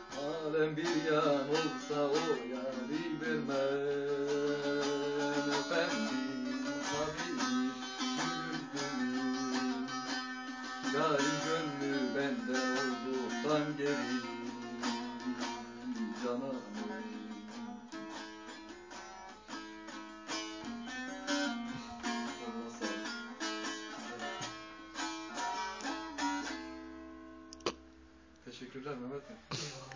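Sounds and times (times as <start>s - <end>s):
plucked long-necked lute: 0.0s - 27.8s.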